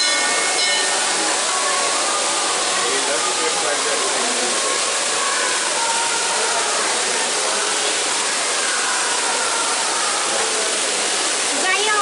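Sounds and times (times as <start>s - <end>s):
small waterfall pouring: 0.0s - 12.0s.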